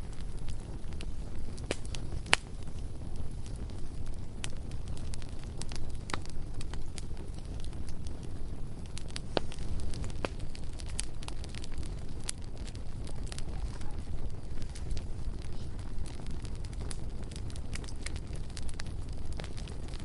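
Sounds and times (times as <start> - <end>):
burning wood crackling and popping: 0.0 - 20.0
low rumble of flames: 0.0 - 20.0.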